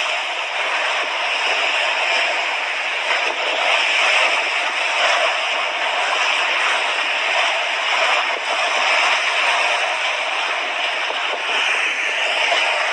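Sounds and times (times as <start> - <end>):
sea waves washing on beach: 0.0 - 12.9.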